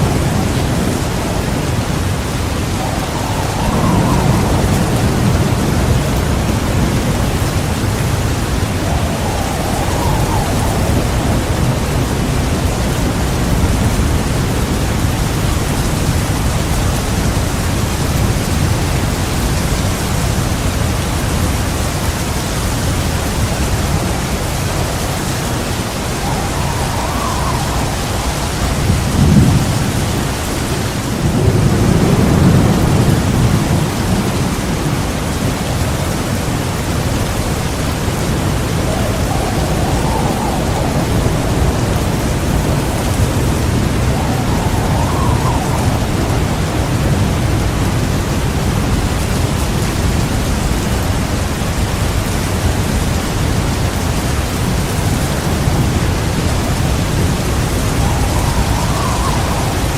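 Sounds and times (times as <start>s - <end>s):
heavy rain pouring: 0.0s - 59.9s
thunder clap and rumble: 0.0s - 59.9s.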